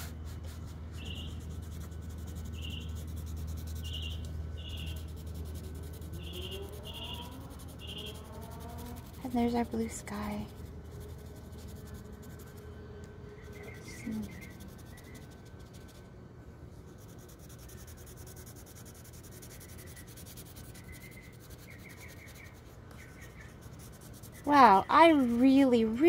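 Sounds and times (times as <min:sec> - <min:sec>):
crayon scratching on paper: 0:00.0 - 0:12.6, 0:13.4 - 0:16.1, 0:16.9 - 0:26.0.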